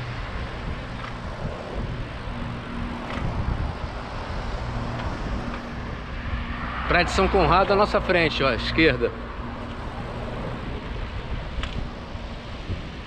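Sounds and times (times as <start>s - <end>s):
bicycle tyre noise: 0.0s - 13.0s
faint traffic engine hum: 0.0s - 13.0s
rushing wind: 0.0s - 13.0s.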